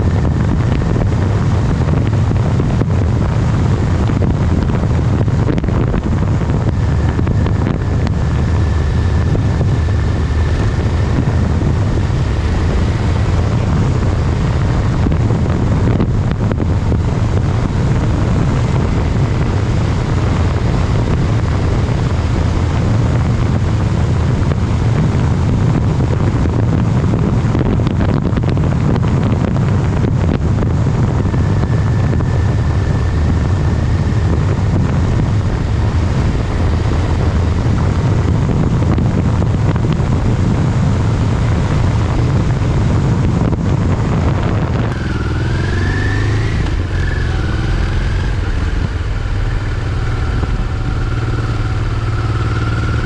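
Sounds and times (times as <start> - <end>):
motorcycle engine: 0.0 - 53.0
wind rush over microphone: 0.0 - 53.0.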